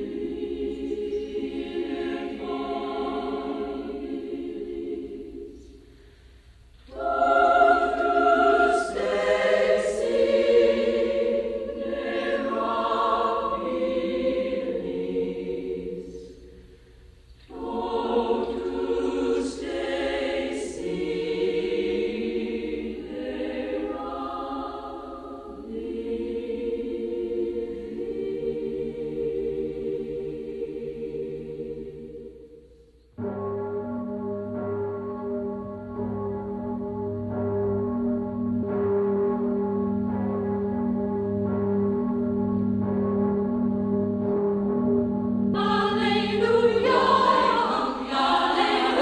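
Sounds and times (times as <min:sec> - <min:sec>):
choir singing: 0:00.0 - 0:06.0, 0:06.8 - 0:16.8, 0:17.4 - 0:49.0.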